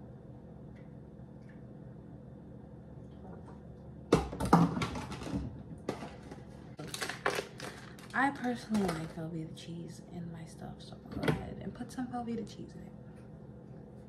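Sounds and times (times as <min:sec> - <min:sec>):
faint kitchen hum: 0:00.0 - 0:14.0.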